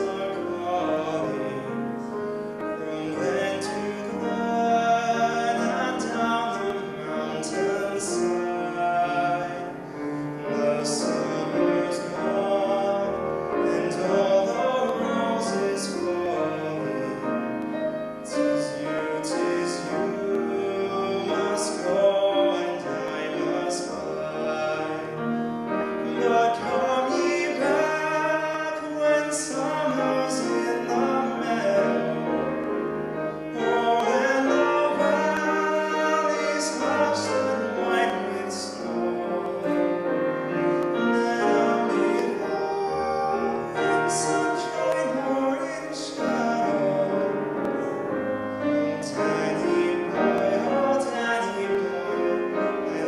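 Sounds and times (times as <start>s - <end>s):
man singing into microphone: 0.0s - 53.0s.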